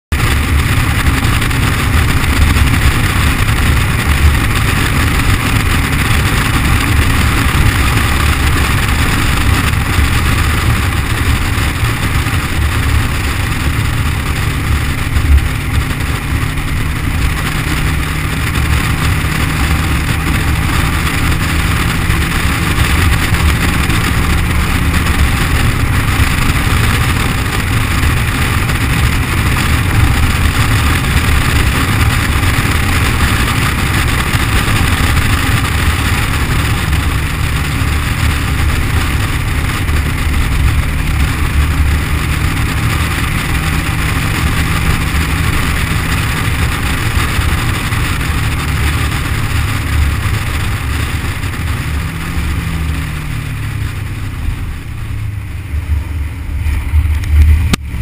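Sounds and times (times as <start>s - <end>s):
constant rattle: 0.0s - 58.0s
muffled car driving noise: 0.0s - 58.0s.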